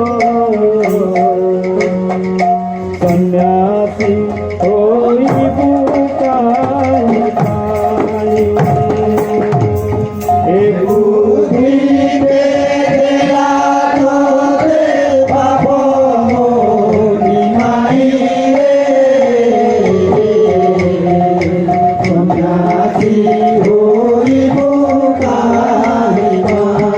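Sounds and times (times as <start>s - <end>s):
hand drum strokes: 0.0s - 26.9s.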